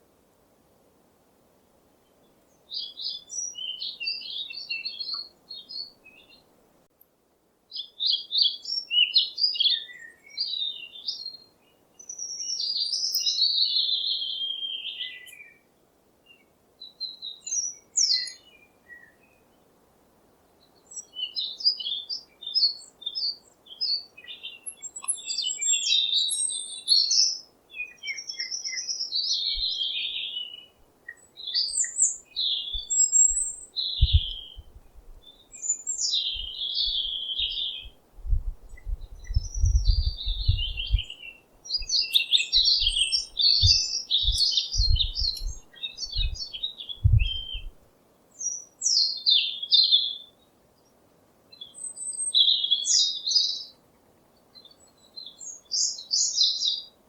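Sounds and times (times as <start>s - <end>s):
songbird chirping and singing: 2.5s - 6.4s, 7.7s - 15.7s, 16.3s - 19.6s, 20.6s - 53.8s, 54.4s - 57.0s.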